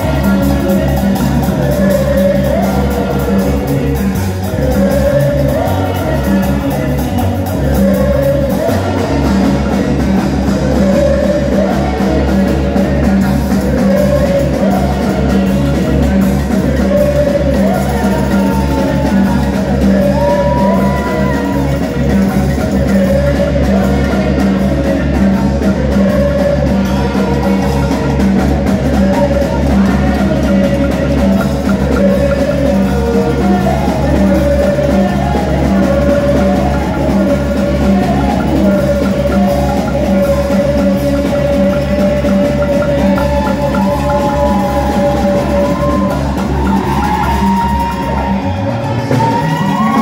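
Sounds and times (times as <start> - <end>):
band music with drums bass guitar: 0.0 - 50.0
wavering sung melody: 0.0 - 50.0.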